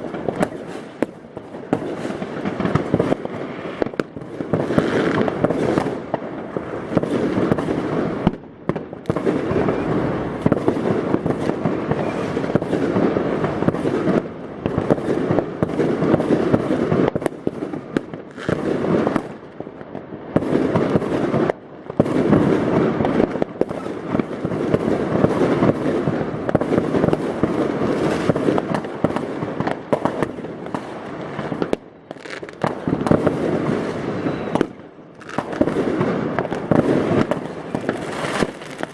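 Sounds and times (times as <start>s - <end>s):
fireworks and firecrackers banging: 0.0s - 38.9s.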